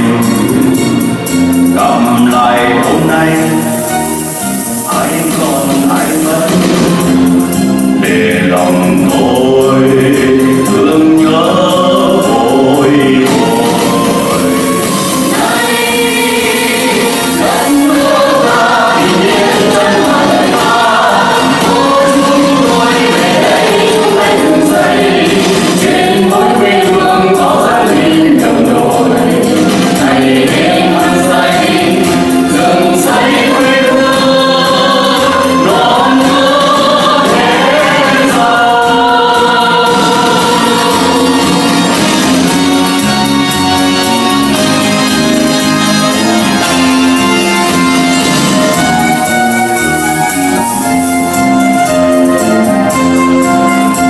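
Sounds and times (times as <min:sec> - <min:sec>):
vocal group singing: 0:00.0 - 0:53.0
backing music: 0:00.0 - 0:54.0.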